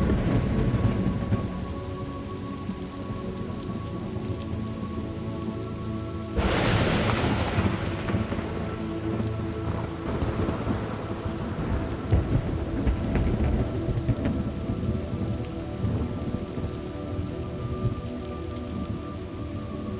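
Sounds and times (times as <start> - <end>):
rolling thunder: 0.0 - 4.7, 6.4 - 19.0
rain falling: 0.0 - 19.9.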